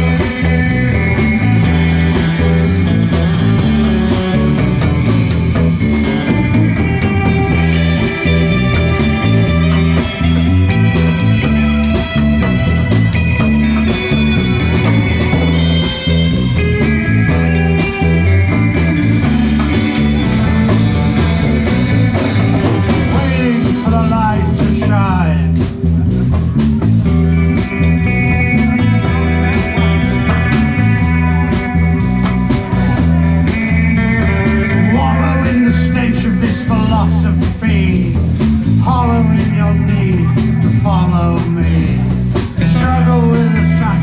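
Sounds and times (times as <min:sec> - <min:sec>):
bass guitar: 0:00.0 - 0:44.0
electric lead guitar: 0:00.0 - 0:44.0
steady drum beat: 0:00.0 - 0:44.0.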